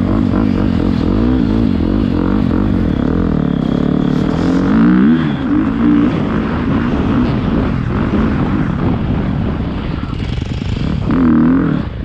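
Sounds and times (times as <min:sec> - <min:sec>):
motorbike engine revving: 0:00.0 - 0:09.2, 0:10.0 - 0:12.0.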